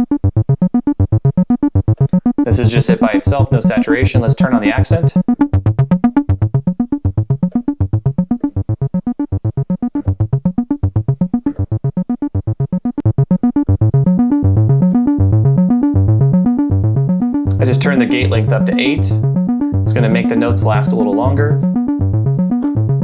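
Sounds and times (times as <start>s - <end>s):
bass synthesizer pattern: 0.0s - 23.0s.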